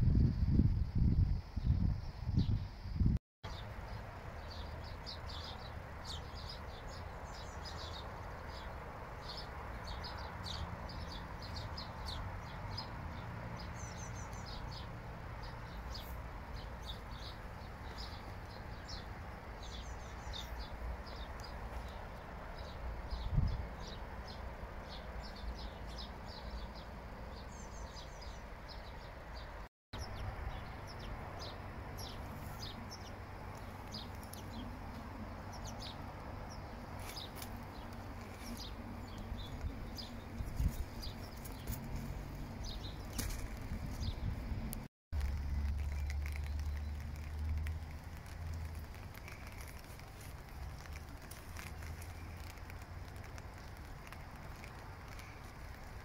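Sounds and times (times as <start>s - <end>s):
small birds chirping: 0.9s - 56.0s.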